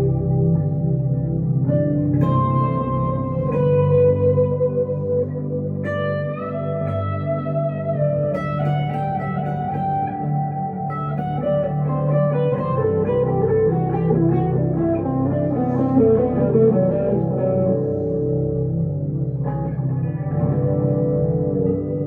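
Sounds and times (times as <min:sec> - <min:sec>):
electric guitar melody: 0:00.0 - 0:22.0.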